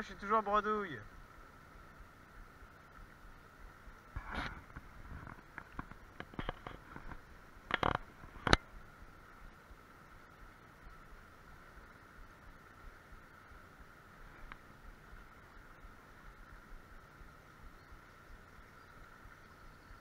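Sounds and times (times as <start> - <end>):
fast-flowing stream: 0.0 - 20.0.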